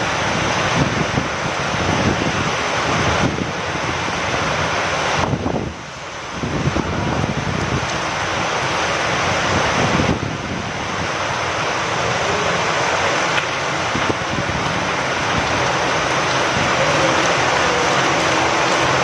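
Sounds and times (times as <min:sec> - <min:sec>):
heavy rain falling: 0:00.0 - 0:19.0
wind: 0:00.0 - 0:19.0.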